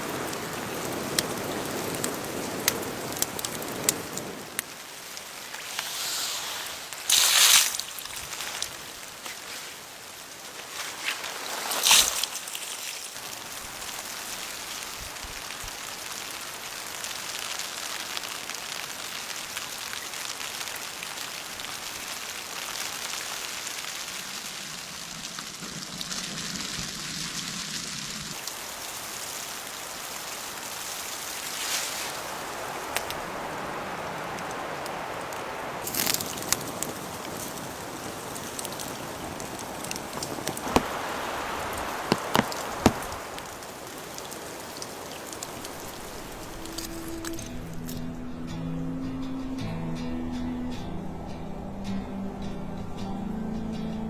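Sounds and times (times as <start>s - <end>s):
steady rain falling: 0.0s - 48.3s.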